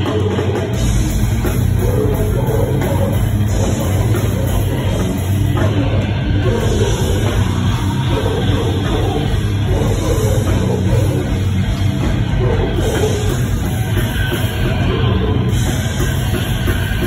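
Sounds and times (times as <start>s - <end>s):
metal band playing live: 0.0s - 17.0s.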